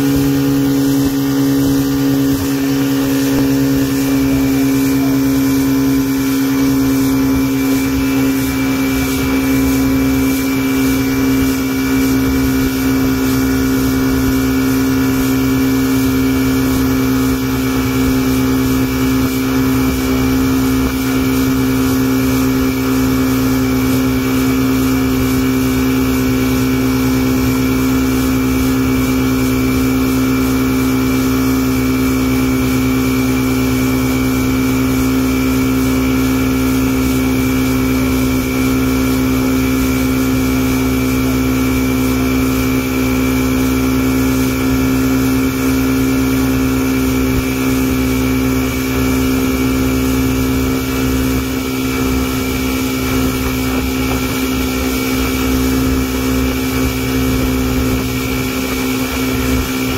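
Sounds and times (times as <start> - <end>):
motorboat engine droning: 0.0 - 59.9.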